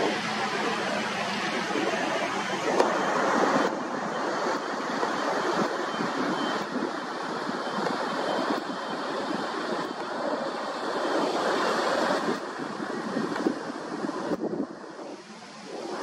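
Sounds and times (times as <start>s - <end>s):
jet airliner passing overhead: 0.0s - 16.0s.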